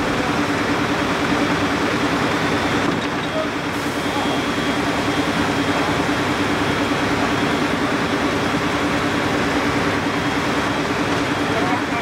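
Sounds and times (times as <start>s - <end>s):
harvester engine running: 0.0s - 12.0s.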